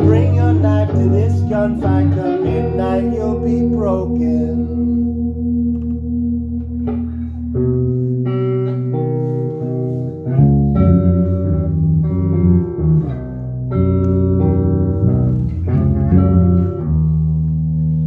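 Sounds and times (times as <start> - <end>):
bass line: 0.0 - 18.0
guitar chords: 0.0 - 18.0.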